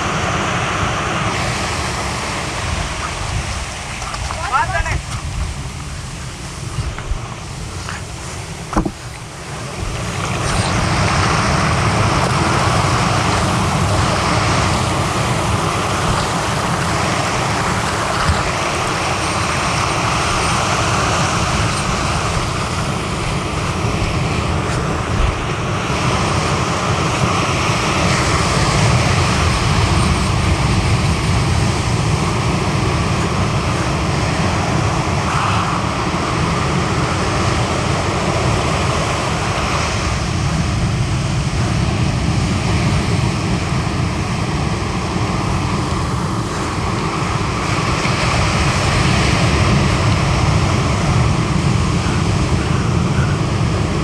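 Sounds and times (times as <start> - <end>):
surf breaking on shore: 0.0 - 54.0
wind buffeting microphone: 0.0 - 54.0.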